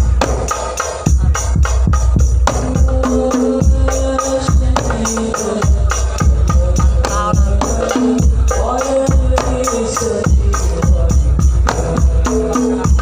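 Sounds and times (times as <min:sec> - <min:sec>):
tambourine and drums beat: 0:00.0 - 0:13.0.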